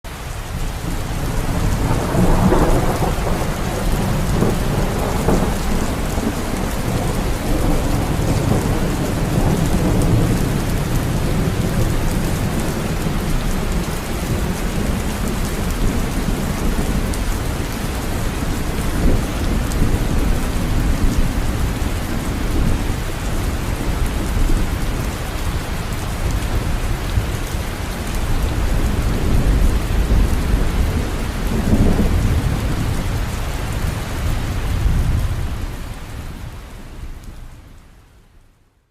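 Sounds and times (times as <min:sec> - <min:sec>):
heavy rain falling: 0:00.1 - 0:38.5
low rumbling thunder: 0:00.4 - 0:36.6.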